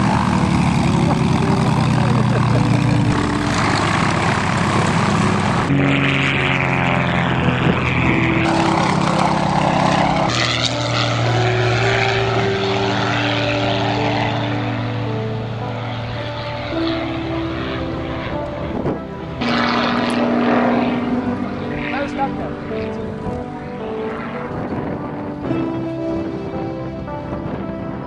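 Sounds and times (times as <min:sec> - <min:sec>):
propeller aeroplanes droning: 0:00.0 - 0:28.0.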